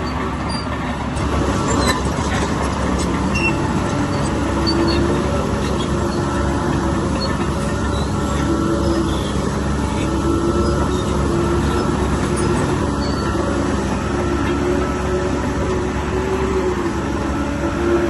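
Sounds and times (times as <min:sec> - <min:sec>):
bulldozer diesel engine running: 0:00.0 - 0:18.0
pitched machinery whine: 0:00.0 - 0:18.0.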